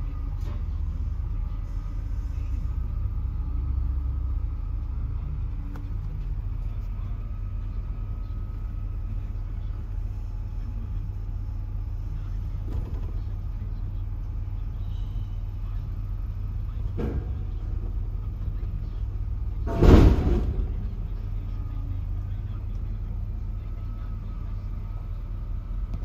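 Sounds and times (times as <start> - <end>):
engine rumble inside truck cab: 0.0 - 26.0.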